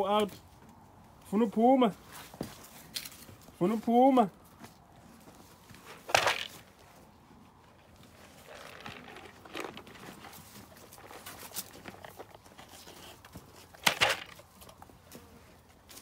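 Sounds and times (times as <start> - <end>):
rustling and crinkling: 2.0 - 3.6, 4.4 - 16.0.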